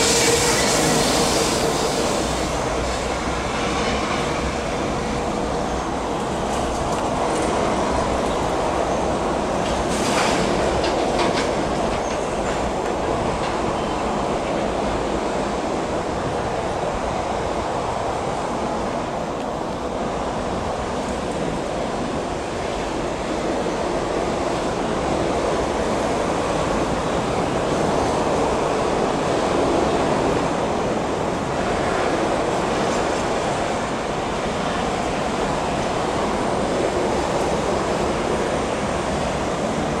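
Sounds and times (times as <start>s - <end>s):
train coaches rushing rail noise: 0.0s - 40.0s.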